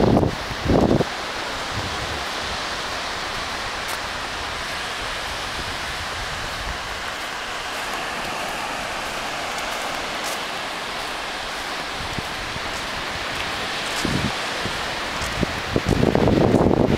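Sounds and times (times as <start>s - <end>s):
sea surf breaking on beach: 0.0s - 16.9s.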